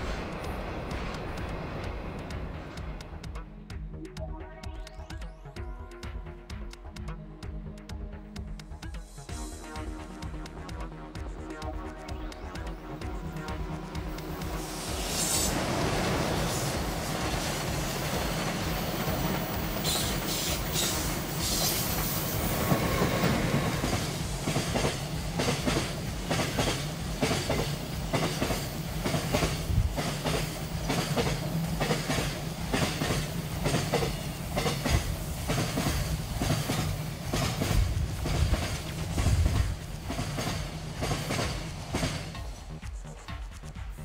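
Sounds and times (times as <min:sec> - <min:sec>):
freight train wheels clacking: 0:00.0 - 0:03.8, 0:06.2 - 0:44.0
train rumble: 0:00.0 - 0:04.4, 0:05.0 - 0:44.0.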